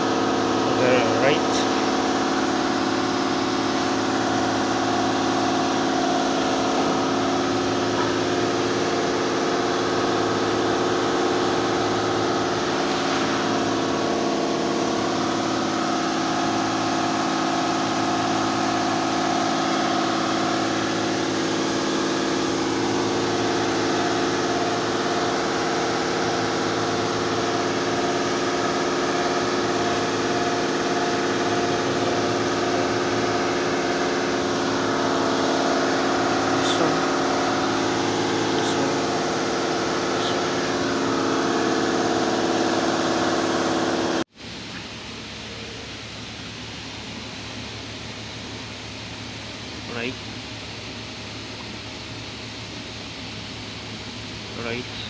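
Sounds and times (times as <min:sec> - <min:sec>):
car engine idling: 0:00.0 - 0:44.2.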